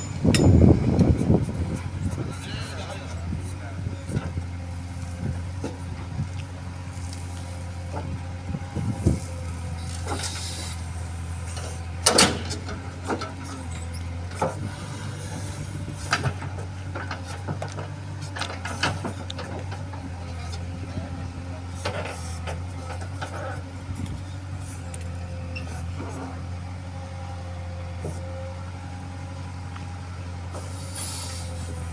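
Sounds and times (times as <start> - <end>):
heavy diesel engine humming: 0.0 - 31.9.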